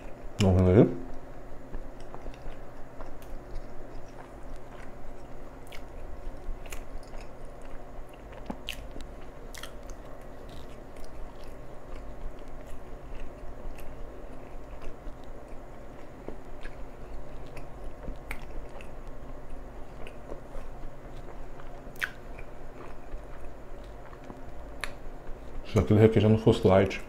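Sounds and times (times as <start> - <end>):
low steady hum: 0.0 - 27.0
close chewing: 1.7 - 25.6.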